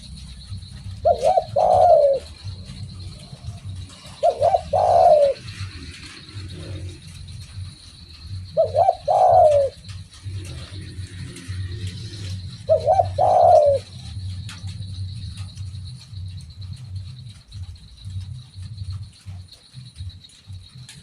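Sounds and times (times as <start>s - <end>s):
dove cooing: 0.0s - 21.0s
steady low rumble: 0.0s - 21.0s.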